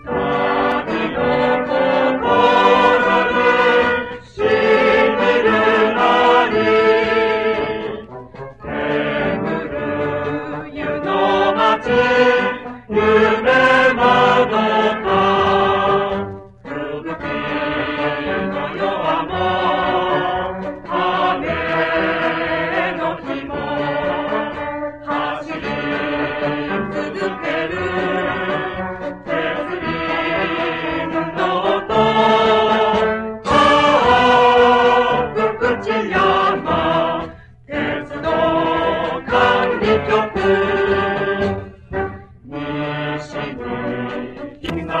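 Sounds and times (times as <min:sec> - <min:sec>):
brass band playing: 0:00.0 - 0:45.0
mixed choir singing: 0:00.0 - 0:45.0.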